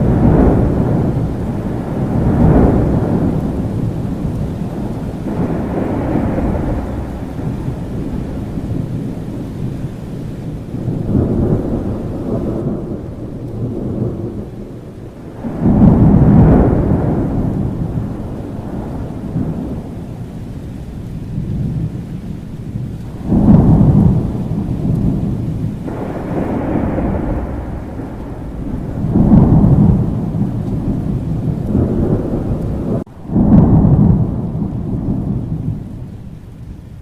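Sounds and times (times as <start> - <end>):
rain downpour: 0.0 - 37.0
rolling thunder: 0.0 - 37.0.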